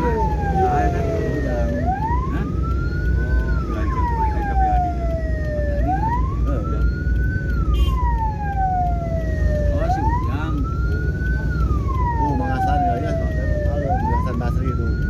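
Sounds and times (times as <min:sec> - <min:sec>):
vehicle siren wailing: 0:00.0 - 0:15.0.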